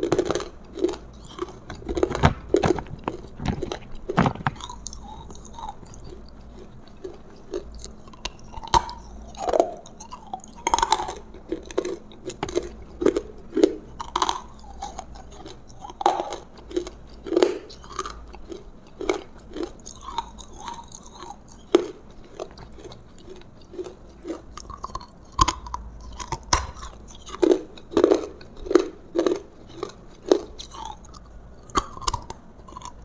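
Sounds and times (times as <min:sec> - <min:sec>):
chewing and biting food: 0:00.0 - 0:33.0
crunchy bites: 0:00.0 - 0:33.0.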